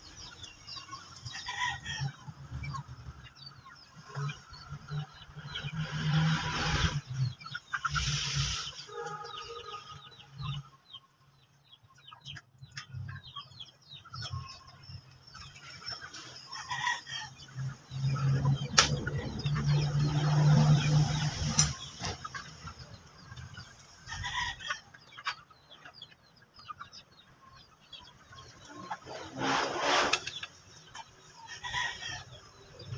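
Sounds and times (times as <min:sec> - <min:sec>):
chickens clucking: 0:00.0 - 0:32.9.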